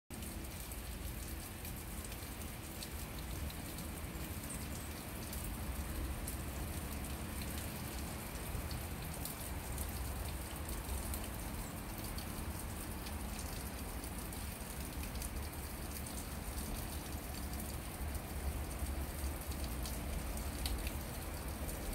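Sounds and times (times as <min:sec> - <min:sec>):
water drips ticking: 0:00.1 - 0:21.9
water trickling and splashing on rock: 0:00.1 - 0:21.9.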